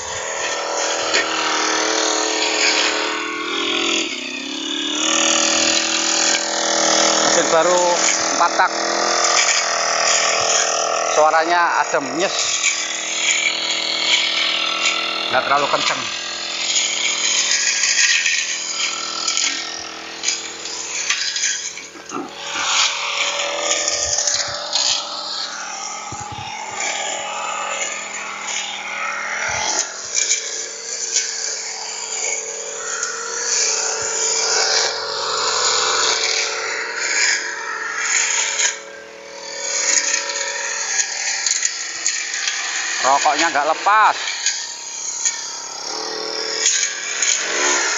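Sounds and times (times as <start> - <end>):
brush cutter engine running: 0.0 - 47.9.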